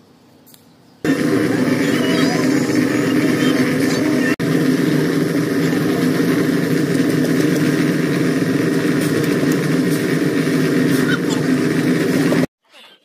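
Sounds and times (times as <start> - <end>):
engine running steadily: 1.0 - 12.5.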